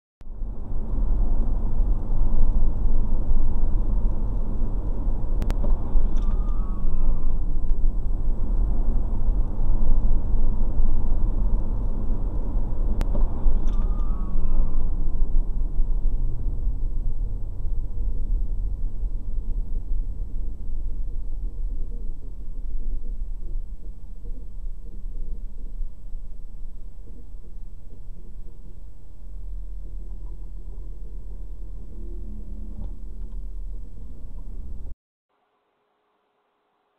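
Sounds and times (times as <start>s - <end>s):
car road and engine rumble: 0.2s - 35.0s.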